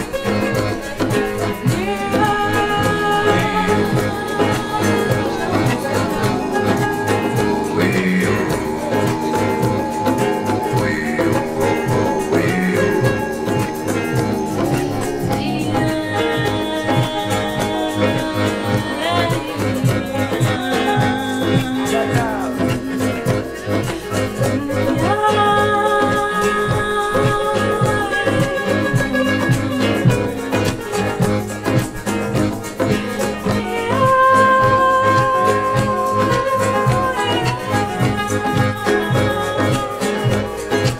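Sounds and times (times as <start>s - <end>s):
band playing upbeat song: 0.0s - 40.9s
long held notes: 0.0s - 40.9s
shaker: 0.0s - 40.9s.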